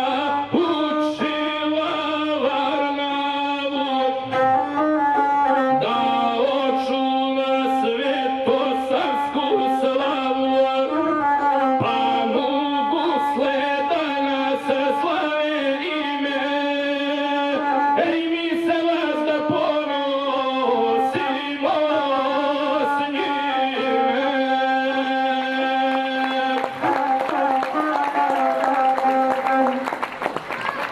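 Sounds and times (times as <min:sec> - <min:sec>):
man singing: 0:00.0 - 0:29.7
bowed one-string fiddle: 0:00.0 - 0:30.7.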